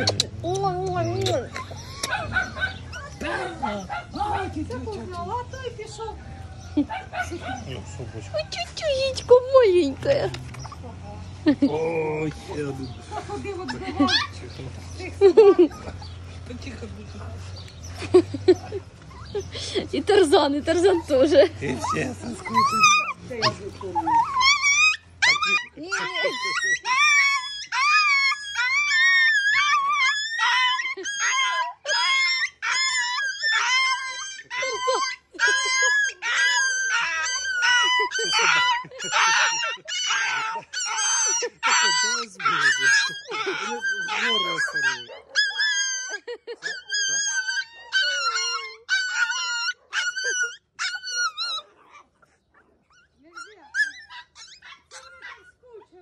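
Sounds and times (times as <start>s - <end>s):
dogs whining and howling: 0.9s - 10.8s, 19.0s - 56.0s.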